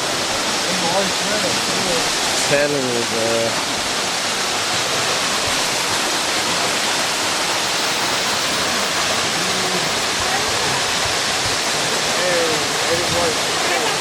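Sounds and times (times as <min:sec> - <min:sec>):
waterfall roaring into a pool: 0:00.0 - 0:14.0.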